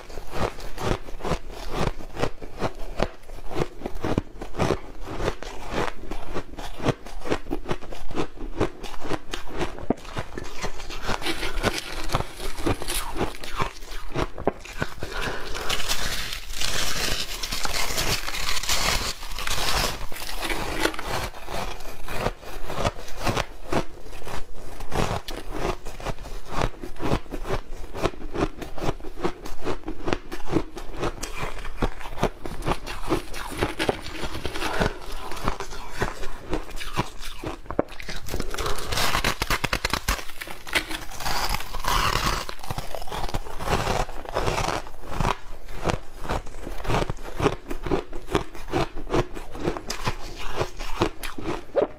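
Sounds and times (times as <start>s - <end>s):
ice being chewed crunching: 0.0s - 51.9s.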